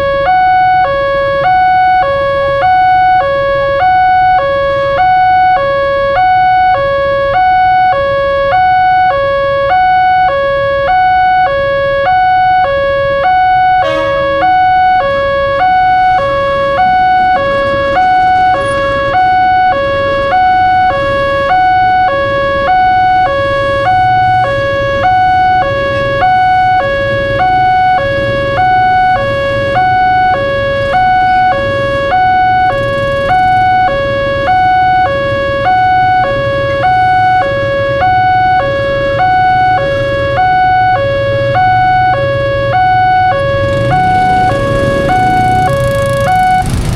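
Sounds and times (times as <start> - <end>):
railroad crossing two-tone chime: 0.0 - 46.9.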